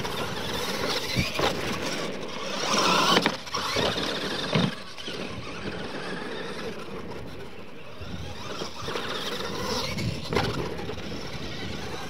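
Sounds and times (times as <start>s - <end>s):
toy truck motors whining: 0.0s - 12.0s.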